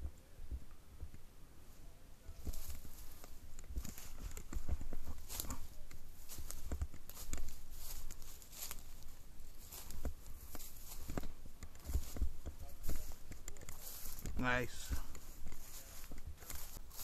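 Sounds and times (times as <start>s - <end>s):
footsteps through dry leaves: 2.4s - 17.0s.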